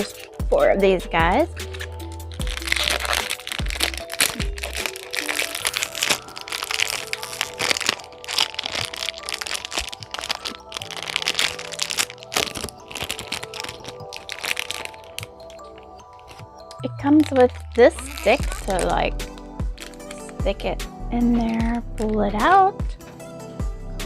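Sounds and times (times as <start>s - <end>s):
plastic wrapper crinkling: 0.0s - 0.5s, 1.4s - 20.7s, 21.3s - 22.4s
background music: 0.0s - 24.0s.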